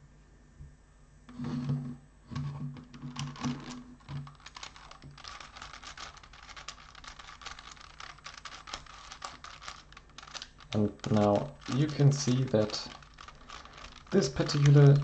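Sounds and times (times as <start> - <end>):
plastic puzzle clicking and rattling: 2.8 - 15.0.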